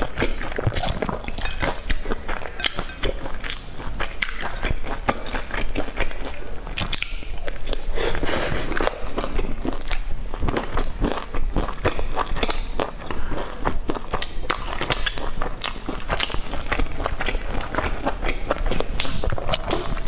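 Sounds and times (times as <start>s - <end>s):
chewing and biting food: 0.0s - 20.0s.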